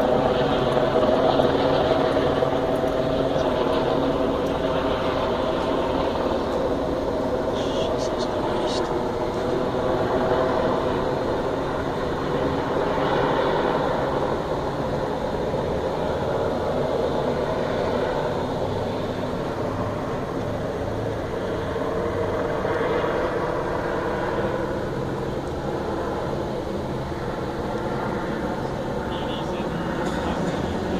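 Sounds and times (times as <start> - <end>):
fire engine pump running: 0.0 - 30.9.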